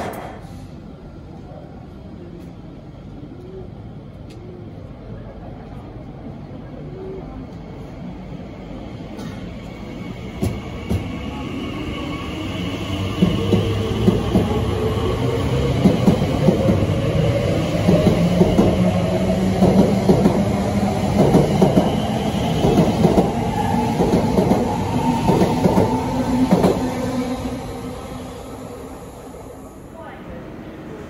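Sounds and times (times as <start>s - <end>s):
train running hum: 0.0s - 31.0s.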